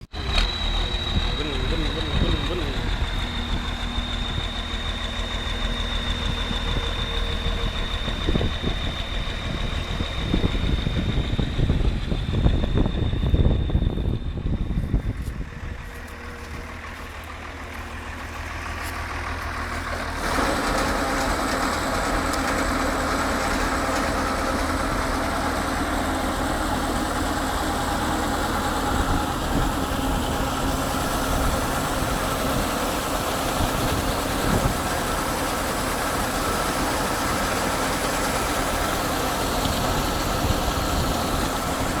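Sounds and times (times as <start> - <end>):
combine harvester diesel engine: 0.0 - 42.0
steady engine whine: 0.0 - 42.0.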